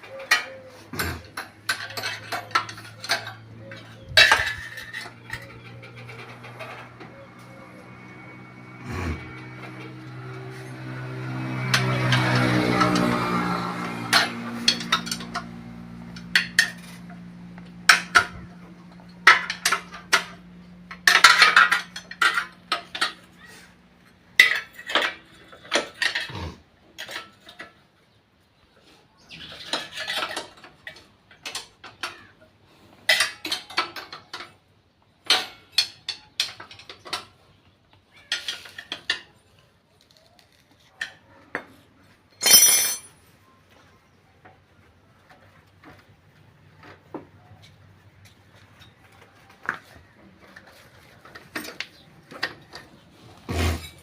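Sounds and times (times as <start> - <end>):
metal tools clinking on engine: 0.0 - 28.2, 29.4 - 41.2, 41.8 - 43.8, 44.5 - 54.0.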